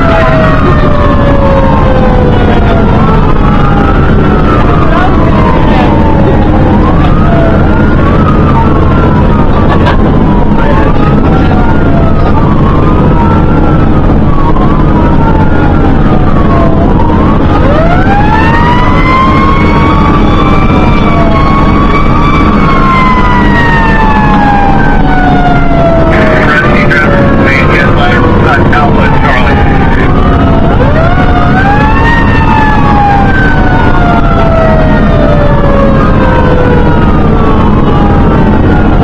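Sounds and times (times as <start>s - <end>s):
fire engine siren: 0.0s - 39.0s
truck engine running: 0.0s - 39.0s.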